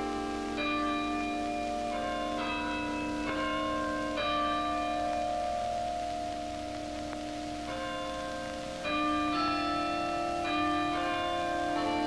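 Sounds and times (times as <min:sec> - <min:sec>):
tower chime bells ringing: 0:00.0 - 0:06.7, 0:07.4 - 0:12.0.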